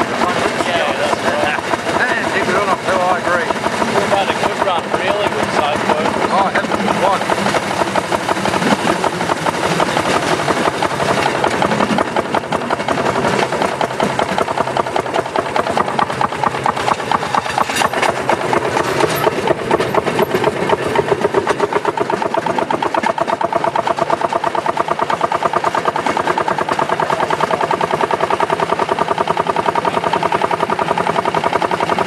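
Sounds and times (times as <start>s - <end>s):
rail car engine running: 0.0s - 32.0s.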